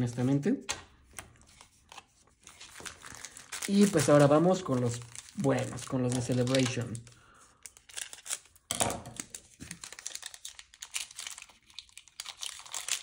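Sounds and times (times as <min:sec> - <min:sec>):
foil wrapper crinkling and tearing: 0:01.5 - 0:13.0.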